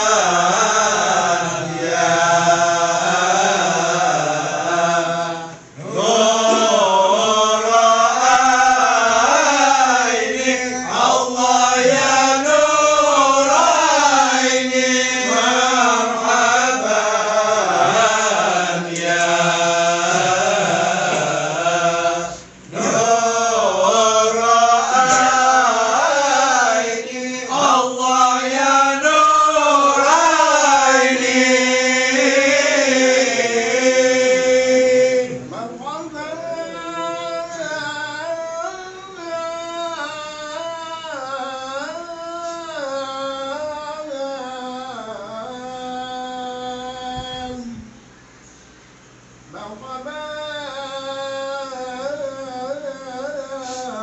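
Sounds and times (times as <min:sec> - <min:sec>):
men chanting together: 0:00.0 - 0:47.8.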